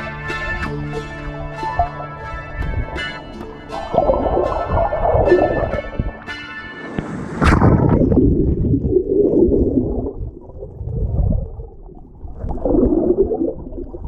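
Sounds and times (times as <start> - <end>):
wave splash: 0.0 - 14.0
underwater churning and gurgling: 1.2 - 14.0.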